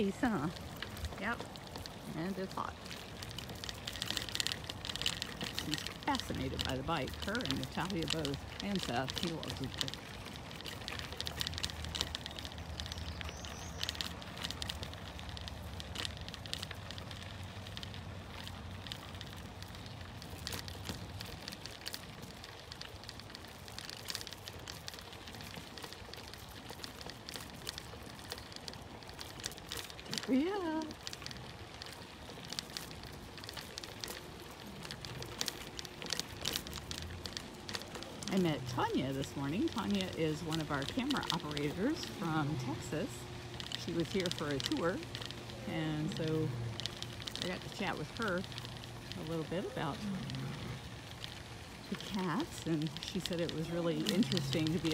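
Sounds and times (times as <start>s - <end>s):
bicycle tyres crunching on gravel: 0.0s - 54.9s.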